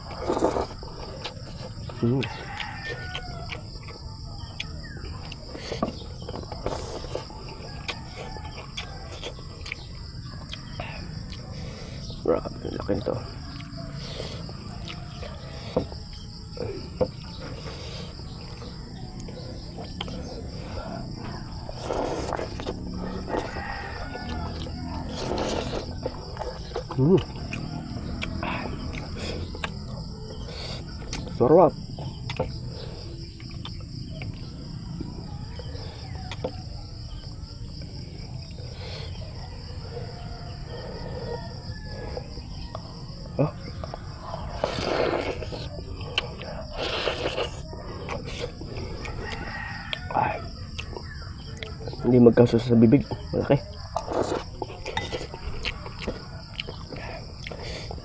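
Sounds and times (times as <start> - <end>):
insects buzzing: 0.0 - 58.0
soft eating sounds: 0.0 - 58.0.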